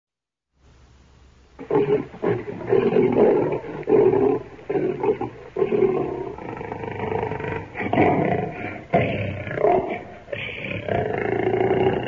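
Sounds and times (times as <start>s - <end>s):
lion roaring: 1.6s - 12.0s.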